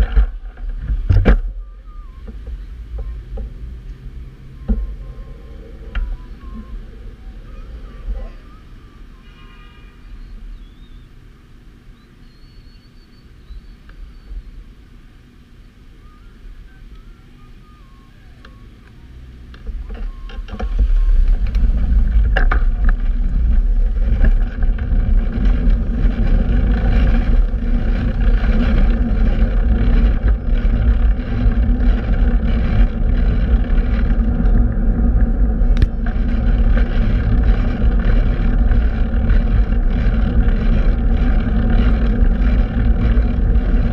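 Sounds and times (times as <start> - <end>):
loud low rumble: 0.0 - 12.0, 13.4 - 43.9
wind buffeting microphone: 0.0 - 43.9.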